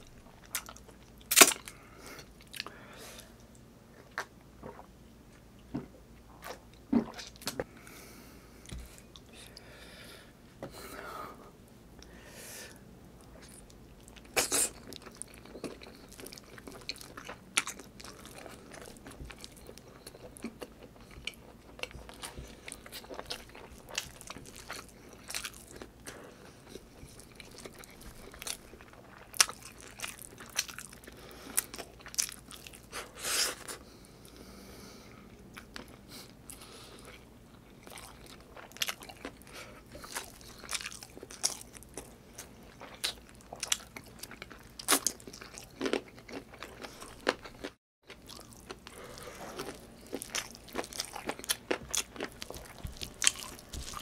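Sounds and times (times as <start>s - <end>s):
man chewing food: 0.0s - 9.7s, 13.2s - 54.0s.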